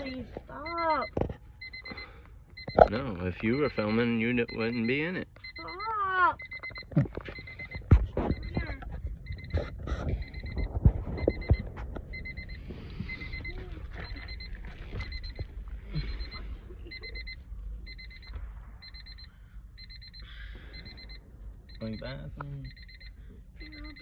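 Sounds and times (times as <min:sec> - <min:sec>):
car warning chime beeping: 0:00.0 - 0:24.0.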